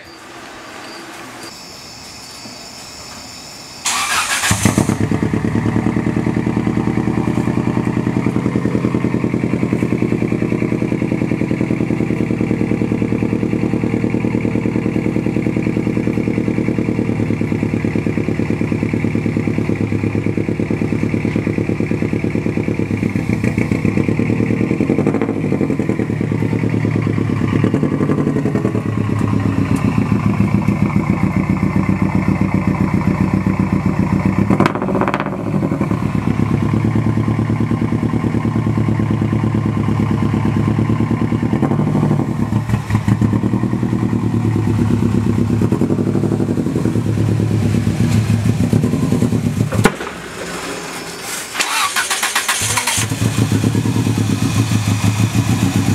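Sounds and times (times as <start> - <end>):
car engine idling: 3.8 - 55.9.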